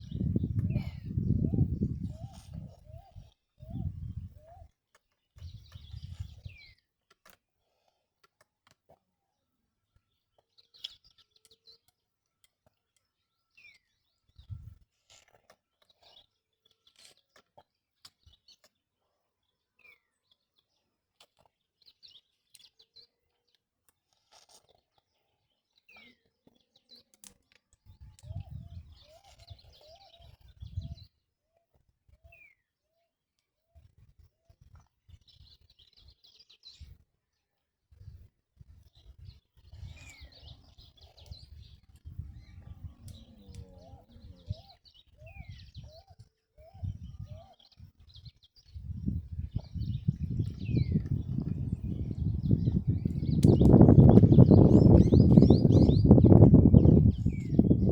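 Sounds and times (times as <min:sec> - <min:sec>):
faint bird chirps and calls: 0:00.0 - 0:06.9, 0:07.7 - 0:57.9.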